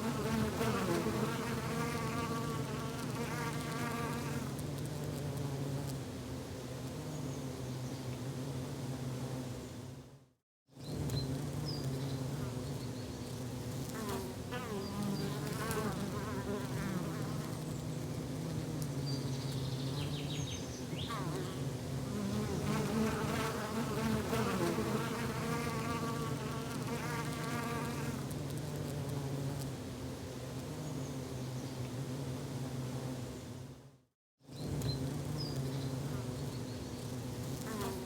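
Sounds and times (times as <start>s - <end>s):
flying insect buzzing: 0.0s - 9.7s, 10.8s - 33.4s, 34.5s - 38.0s.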